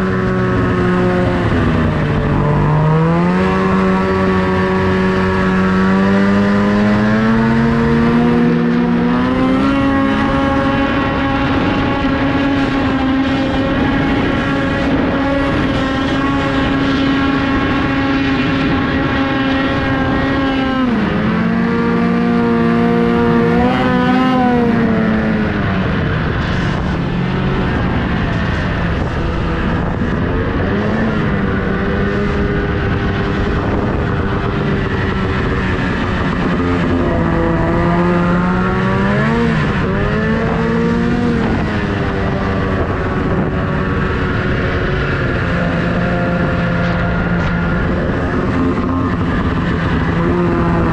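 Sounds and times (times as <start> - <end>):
snowmobile engine revving: 0.0 - 50.9
steady rush of noise: 0.0 - 50.9.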